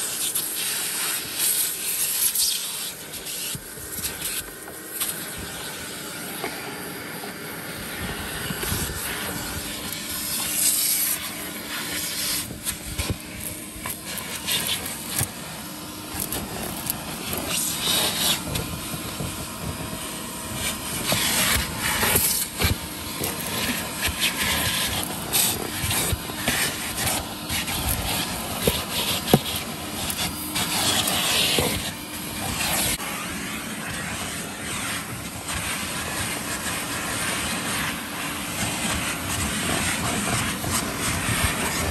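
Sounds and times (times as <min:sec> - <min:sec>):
vacuum cleaner running: 0:00.0 - 0:41.9
vacuum nozzle scratching carpet: 0:00.0 - 0:41.9.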